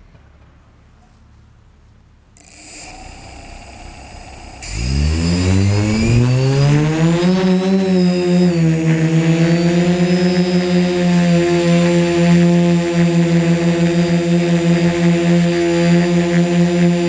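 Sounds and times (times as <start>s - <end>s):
drone motors whining: 2.4s - 17.0s.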